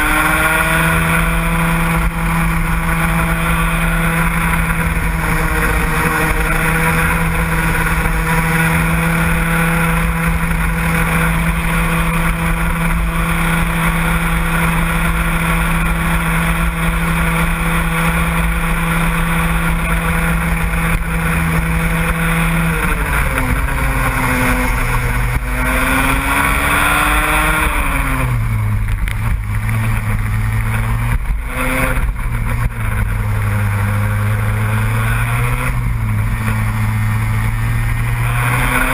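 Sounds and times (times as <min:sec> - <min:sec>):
vehicle engine running hard: 0:00.0 - 0:38.9.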